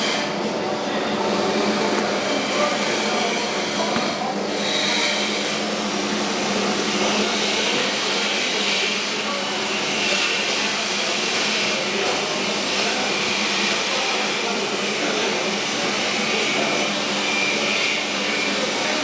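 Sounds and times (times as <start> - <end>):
router running at high speed: 0.0 - 19.0.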